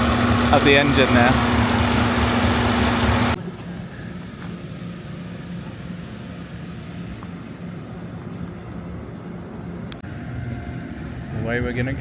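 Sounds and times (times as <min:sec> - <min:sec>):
distant diesel locomotive idling: 0:00.0 - 0:11.6.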